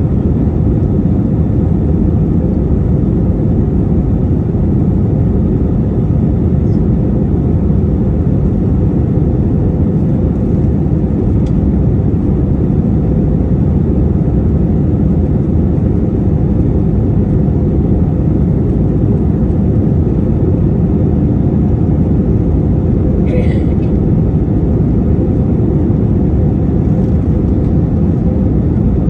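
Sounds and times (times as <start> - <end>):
airplane cabin drone: 0.0 - 29.0.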